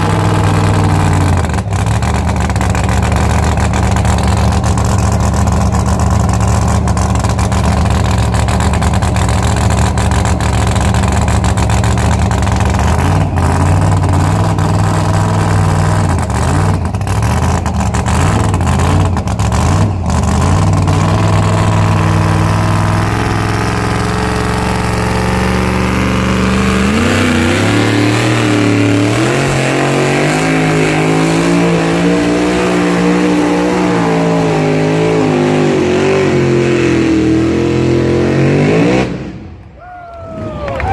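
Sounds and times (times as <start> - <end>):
vehicle engine running hard: 0.0 - 39.7.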